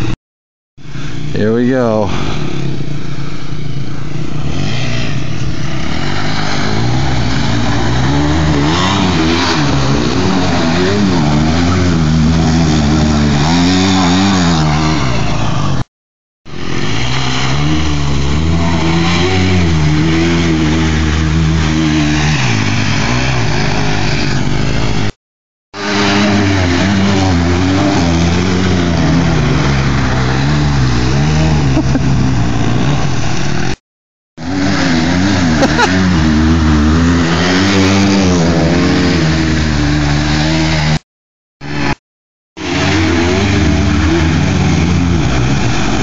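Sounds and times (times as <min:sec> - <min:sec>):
bikes riding through water and mud: 0:00.8 - 0:15.9, 0:16.5 - 0:25.2, 0:25.8 - 0:33.8, 0:34.4 - 0:41.0, 0:41.6 - 0:42.0, 0:42.6 - 0:46.0
dirt bike engines revving: 0:00.8 - 0:15.9, 0:16.5 - 0:25.2, 0:25.8 - 0:33.8, 0:34.4 - 0:41.0, 0:41.6 - 0:42.0, 0:42.6 - 0:46.0.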